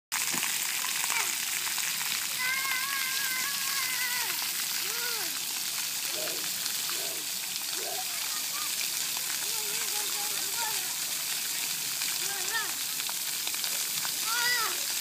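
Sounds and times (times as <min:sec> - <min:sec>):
fountain spray hissing: 0:00.2 - 0:15.0.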